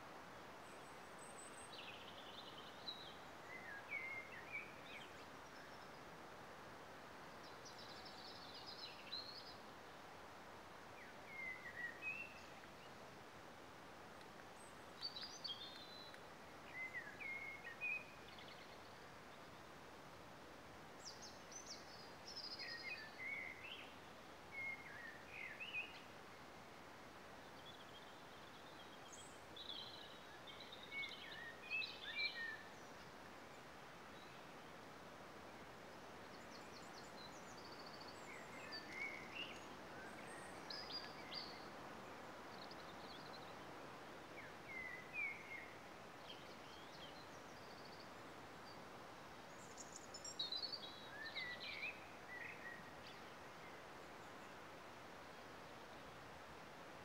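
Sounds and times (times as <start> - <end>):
wind in trees: 0.0 - 57.0.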